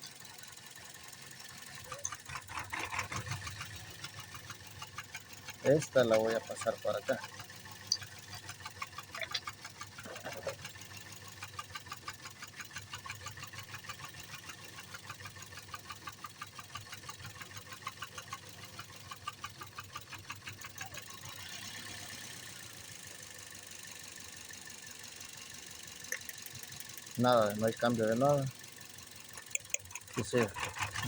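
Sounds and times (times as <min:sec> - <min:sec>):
car engine idling with ticking: 0:00.0 - 0:31.0.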